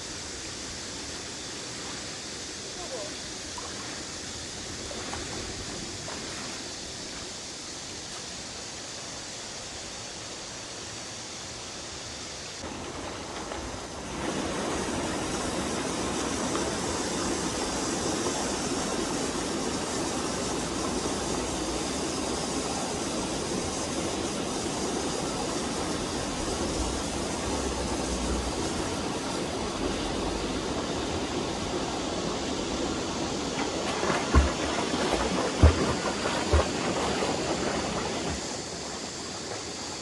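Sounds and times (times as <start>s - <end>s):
stream water rushing over rocks: 0.0s - 40.0s.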